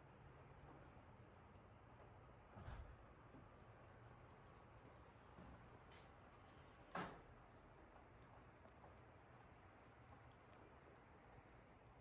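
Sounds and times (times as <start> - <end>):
faint steady background hum: 0.0 - 12.0.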